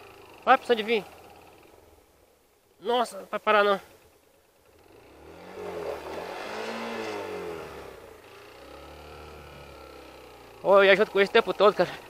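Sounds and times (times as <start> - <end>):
motorcycle engine revving: 0.0 - 2.3, 3.8 - 12.0.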